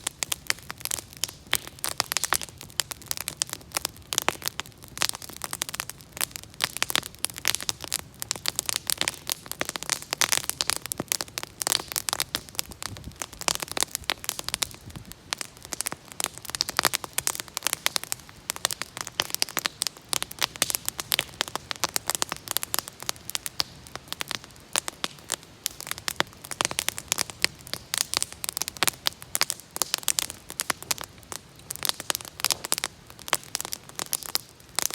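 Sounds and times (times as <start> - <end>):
soft low hiss: 0.0 - 34.9
wood fire crackling: 0.0 - 34.9.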